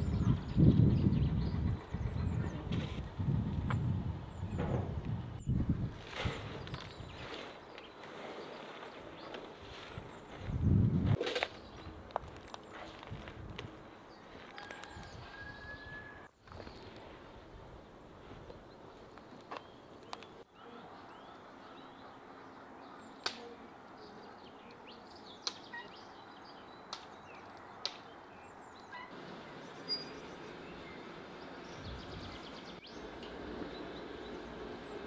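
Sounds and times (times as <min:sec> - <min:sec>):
small birds chirping: 0:00.0 - 0:10.9, 0:13.8 - 0:35.0.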